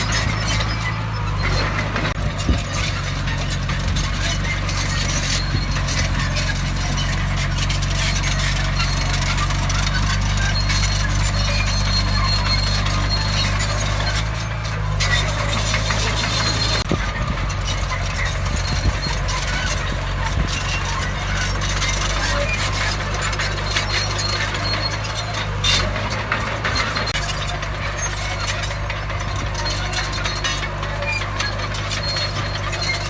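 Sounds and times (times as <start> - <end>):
diesel engine running: 0.0 - 33.0
metallic clatter and squeal: 0.0 - 33.0.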